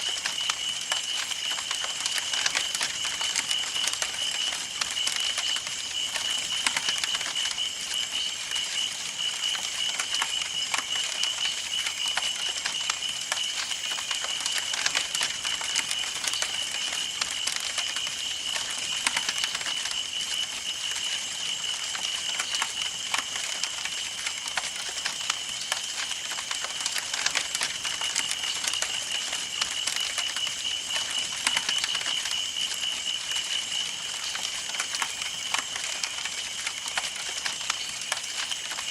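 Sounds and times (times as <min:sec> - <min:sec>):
campfire wood crackling and popping: 0:00.0 - 0:38.9.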